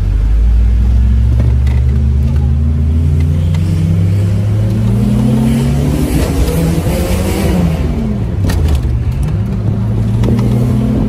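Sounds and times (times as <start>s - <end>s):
car engine while driving: 0.0s - 11.0s.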